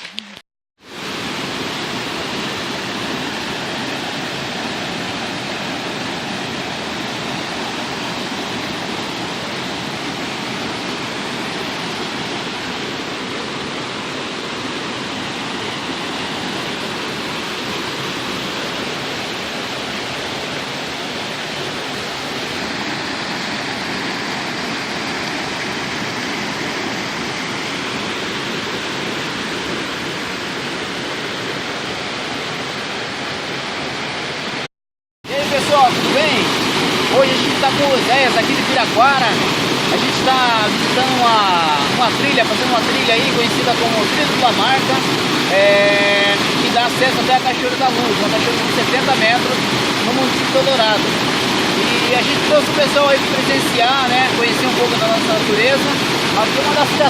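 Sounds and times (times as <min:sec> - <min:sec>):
waterfall roaring: 0:00.0 - 0:34.7, 0:35.3 - 0:57.0.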